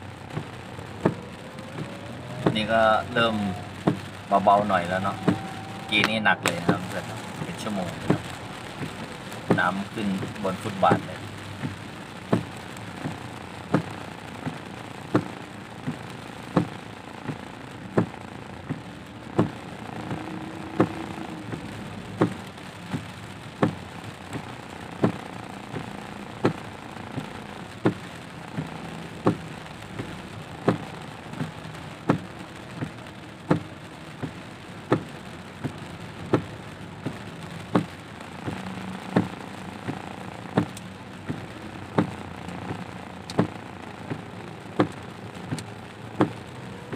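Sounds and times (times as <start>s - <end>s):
rain and tyres hissing on wet road: 0.0s - 46.9s
windscreen wipers knocking: 0.1s - 46.9s.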